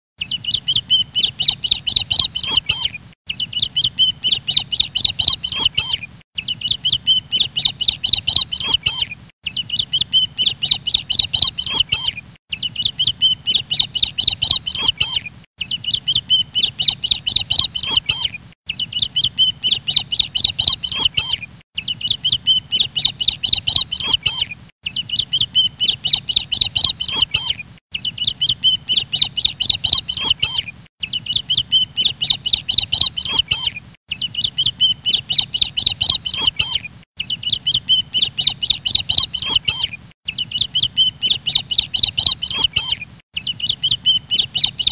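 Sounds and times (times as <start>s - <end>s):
birds chirping quickly: 0.2s - 44.9s.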